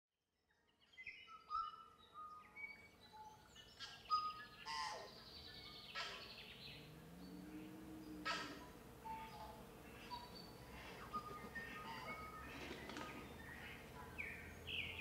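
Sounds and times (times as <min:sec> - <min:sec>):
birds singing and chirping: 0:00.8 - 0:15.0.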